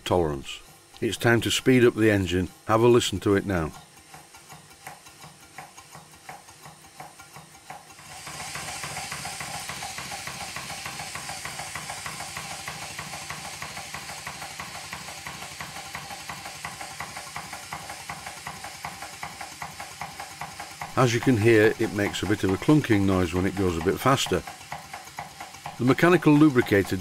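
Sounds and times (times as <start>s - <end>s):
steam engine exhaust hiss: 0.0s - 27.0s
fast even clunking knock: 3.7s - 27.0s.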